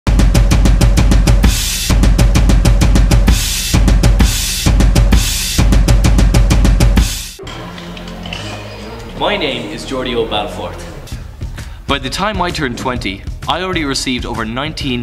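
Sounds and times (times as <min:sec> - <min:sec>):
drum-led music: 0:00.1 - 0:15.0.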